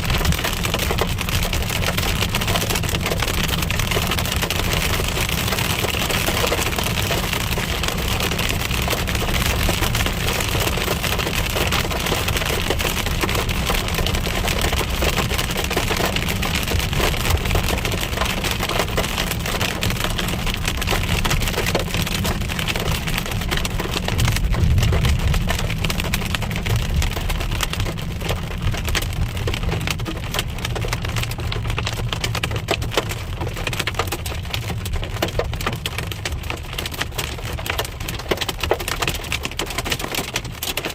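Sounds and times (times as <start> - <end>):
car driving rumble: 0.0 - 40.9
hail and rain pelting a car: 0.0 - 40.9.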